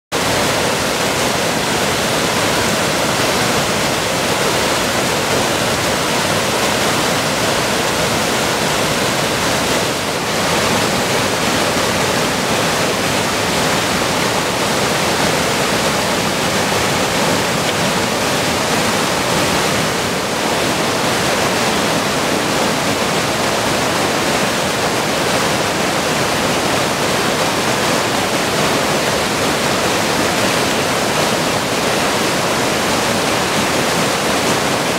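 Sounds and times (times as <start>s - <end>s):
creek water rushing: 0.1s - 34.9s.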